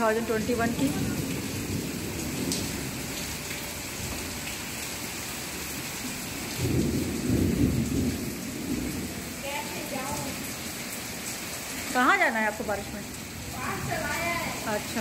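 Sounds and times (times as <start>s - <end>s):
low rumble of thunder: 0.0s - 4.8s, 6.1s - 11.4s, 13.0s - 15.0s
heavy rain on paving: 0.0s - 15.0s.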